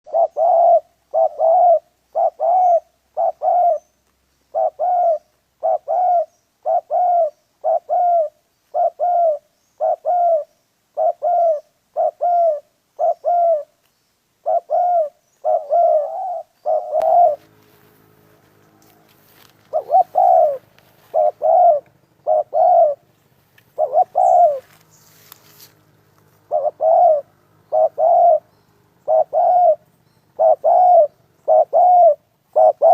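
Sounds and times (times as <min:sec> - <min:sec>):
dove cooing: 0:00.1 - 0:03.9, 0:04.5 - 0:13.8, 0:14.4 - 0:17.6, 0:19.3 - 0:23.1, 0:23.7 - 0:24.9, 0:26.4 - 0:32.9.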